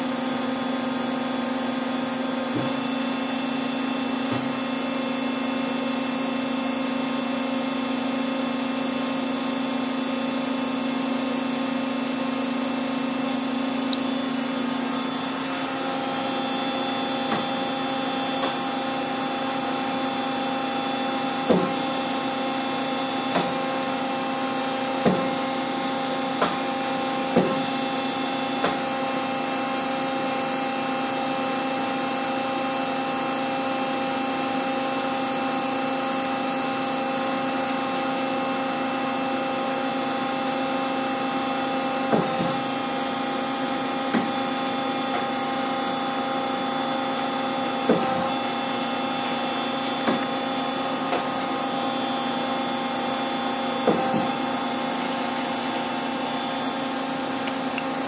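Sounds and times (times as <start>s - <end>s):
machine hum with whining tones: 0.0s - 58.0s.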